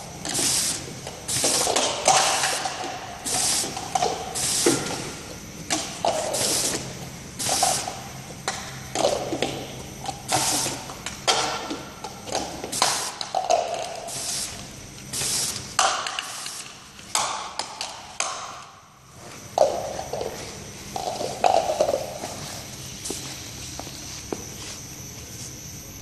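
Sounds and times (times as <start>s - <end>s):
faint motor hum: 0.0s - 26.0s.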